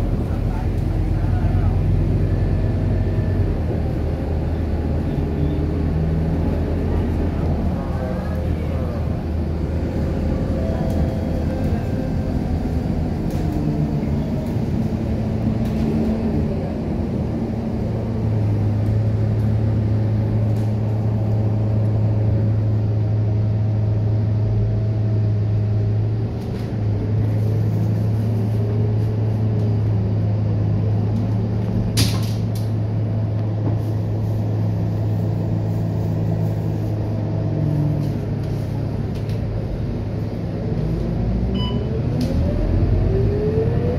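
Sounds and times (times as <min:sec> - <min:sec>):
bus diesel engine hum: 0:00.0 - 0:43.9.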